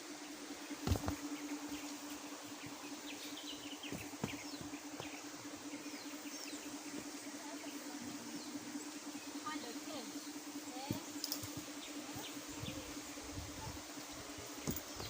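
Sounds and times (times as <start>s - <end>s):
steady low hum: 0.0s - 15.0s
woodland birds chirping: 0.0s - 15.0s.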